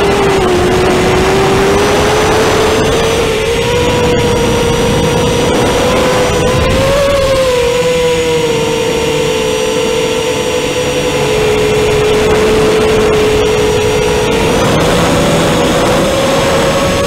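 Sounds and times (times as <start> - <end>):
drone motors whining: 0.0 - 17.0
rushing wind noise: 0.0 - 17.0.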